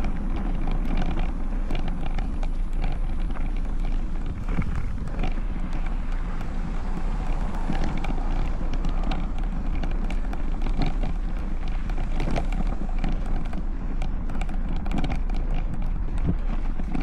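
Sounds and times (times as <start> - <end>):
bike clicks and rattles: 0.0 - 17.0
bike tyre noise: 0.0 - 17.0
wind rumble on microphone: 0.0 - 17.0.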